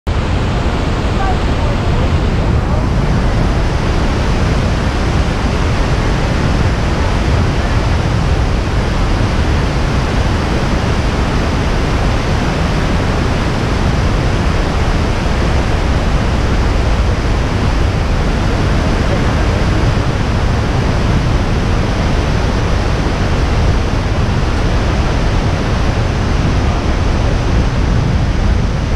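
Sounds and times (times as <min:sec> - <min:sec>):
loud rush of falling water: 0:00.1 - 0:28.9.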